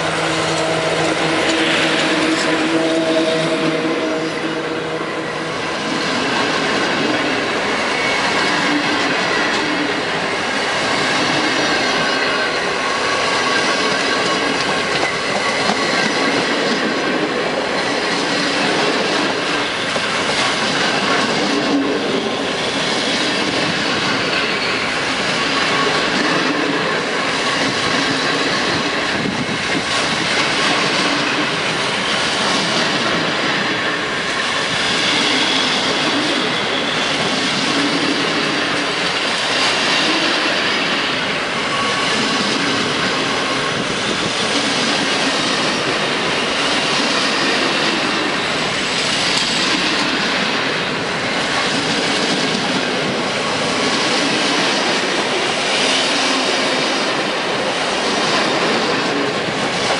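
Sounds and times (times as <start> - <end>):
steel wheels on rail: 0.0 - 59.9.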